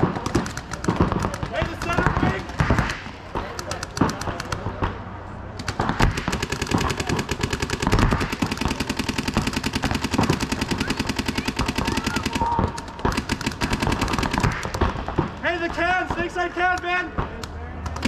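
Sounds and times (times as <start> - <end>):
paintball markers firing: 0.0 - 5.0, 5.6 - 18.0.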